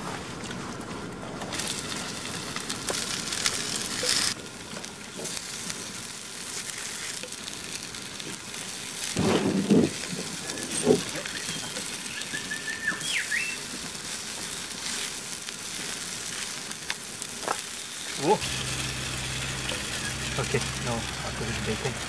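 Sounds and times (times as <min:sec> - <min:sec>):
hash browns sizzling in oil: 0:01.5 - 0:22.0.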